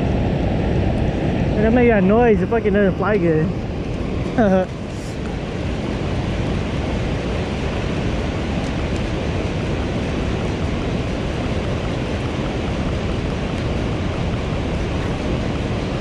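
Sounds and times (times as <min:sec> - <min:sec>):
water rushing through spillway: 0:00.0 - 0:16.0.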